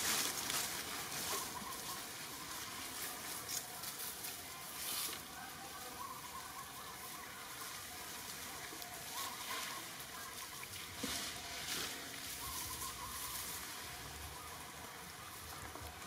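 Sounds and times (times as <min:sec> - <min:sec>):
crackling rustles: 0:00.0 - 0:16.0
outdoor background noise: 0:00.0 - 0:16.0.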